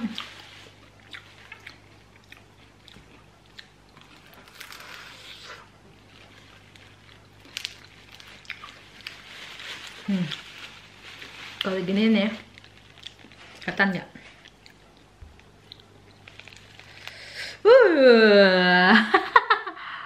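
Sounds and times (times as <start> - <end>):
crunchy chewing: 0.0 - 11.7, 12.4 - 17.2.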